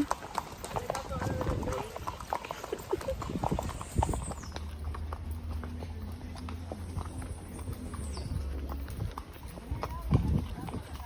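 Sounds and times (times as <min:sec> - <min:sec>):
horse hooves clopping: 0:00.0 - 0:11.0.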